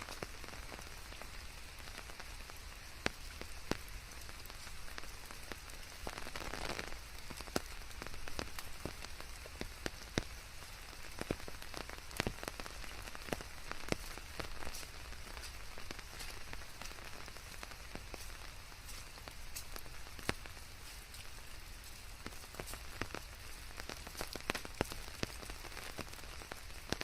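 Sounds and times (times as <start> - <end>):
raindrops tapping: 0.0 - 27.0
steady rain hiss: 0.0 - 27.0.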